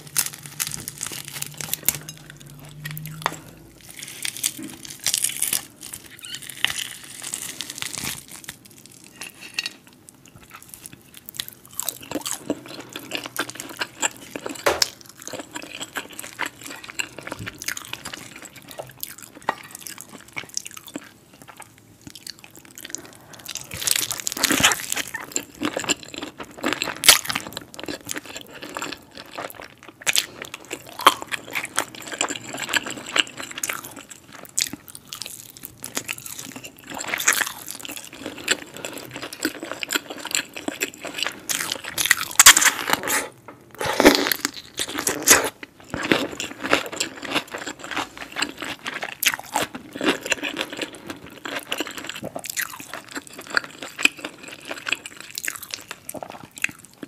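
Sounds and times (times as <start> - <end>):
crunching fried chicken bites: 0.0 - 43.1, 43.8 - 57.0.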